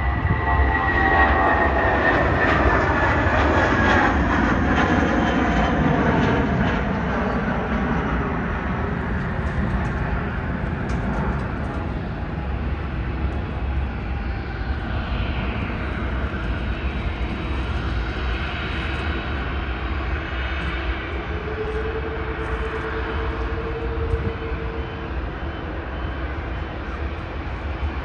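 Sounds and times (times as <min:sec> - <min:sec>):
jet airliner taking off: 0:00.0 - 0:28.0.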